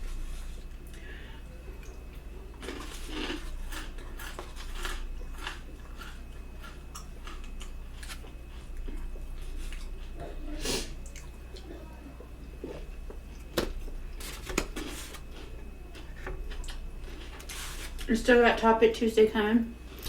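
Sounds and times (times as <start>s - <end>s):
chewing and mouth noises: 1.8s - 18.1s.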